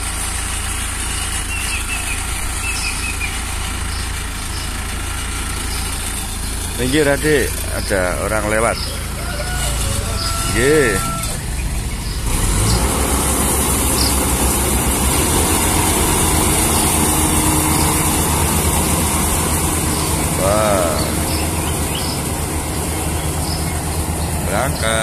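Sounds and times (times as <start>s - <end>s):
combine harvester mechanical drone: 0.0s - 25.0s.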